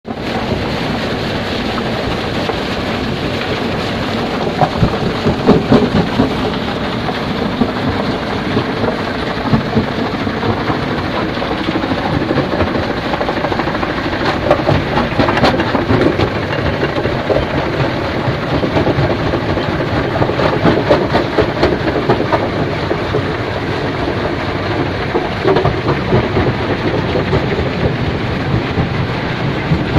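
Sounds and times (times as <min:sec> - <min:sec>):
stone crusher rumbling: 0:00.1 - 0:29.9.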